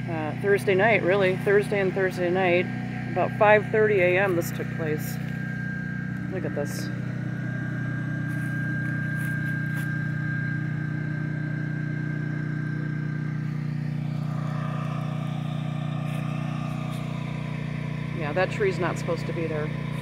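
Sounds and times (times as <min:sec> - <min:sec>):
generator engine hum: 0:00.0 - 0:20.0
high whine: 0:00.0 - 0:20.0.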